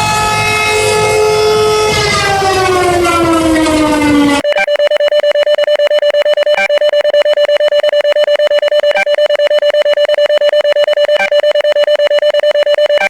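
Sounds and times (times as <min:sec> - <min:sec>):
rapid alarm beeps: 0:00.0 - 0:13.0.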